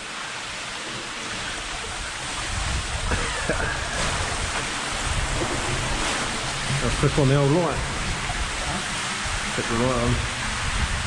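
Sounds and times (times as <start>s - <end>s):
people wading through water: 0.0s - 11.0s
water rushing through tunnel: 0.0s - 11.0s.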